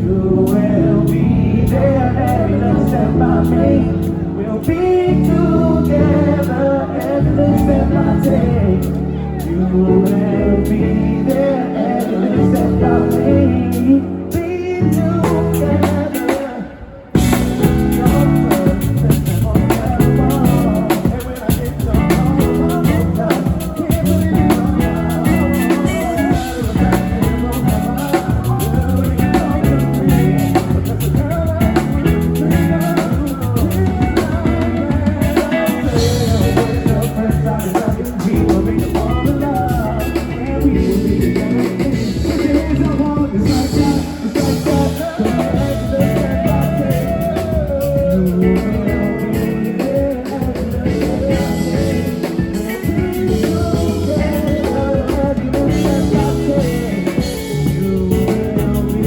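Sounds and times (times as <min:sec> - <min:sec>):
bass: 0:00.0 - 0:59.0
guitar: 0:00.0 - 0:59.0
person singing: 0:00.0 - 0:59.0
drum kit beat: 0:07.0 - 0:16.6, 0:17.2 - 0:59.0.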